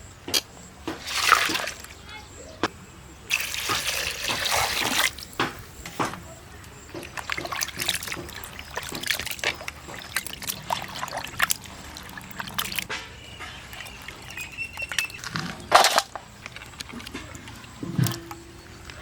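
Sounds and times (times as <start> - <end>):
water trickling and sloshing: 0.8 - 2.4, 3.2 - 19.0.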